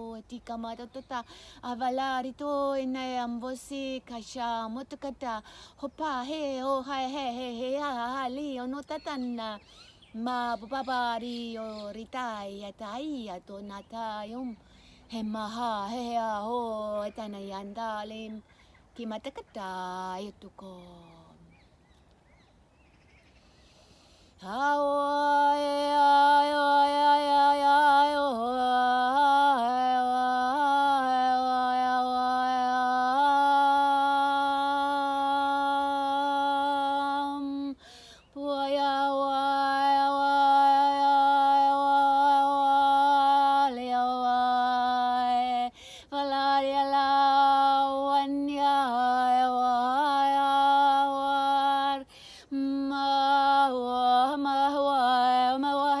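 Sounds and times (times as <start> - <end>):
woman singing wordless tones: 0.0 - 21.8, 24.4 - 56.0.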